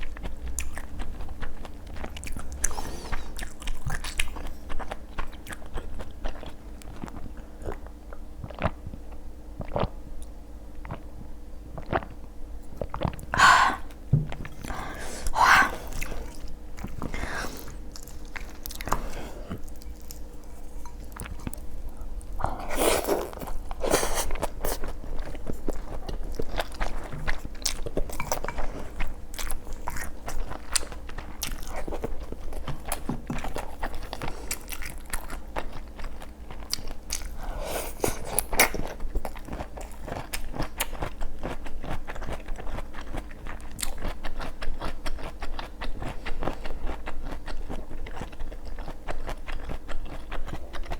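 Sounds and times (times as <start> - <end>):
person chewing and crunching: 0.0 - 50.9.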